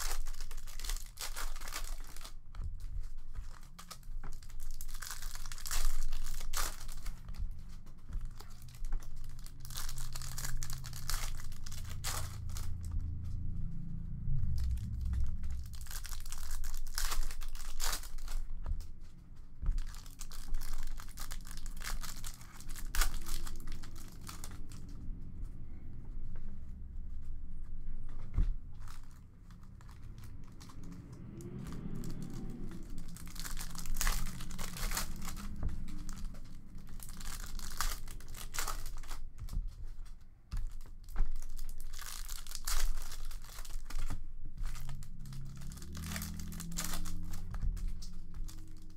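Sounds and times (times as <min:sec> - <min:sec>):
foil wrappers tearing and crinkling: 0:00.0 - 0:13.6, 0:14.5 - 0:19.0, 0:19.6 - 0:24.9, 0:28.8 - 0:48.9
sharp rips and rustles: 0:00.0 - 0:25.2, 0:28.4 - 0:48.9.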